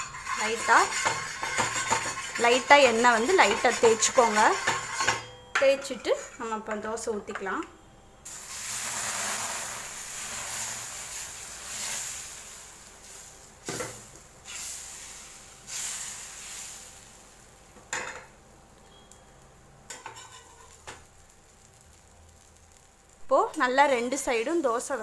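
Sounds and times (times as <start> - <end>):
batter sizzling on hot griddle: 0.0 - 5.3, 8.2 - 25.0.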